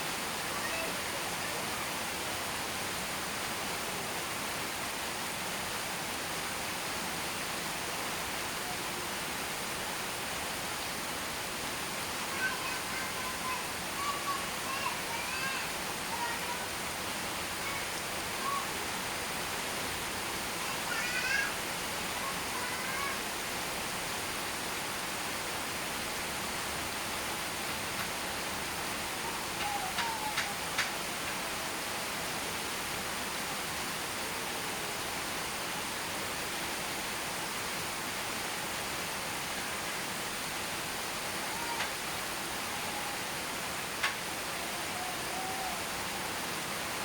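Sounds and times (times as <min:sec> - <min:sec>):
rain hiss: 0:00.0 - 0:47.0.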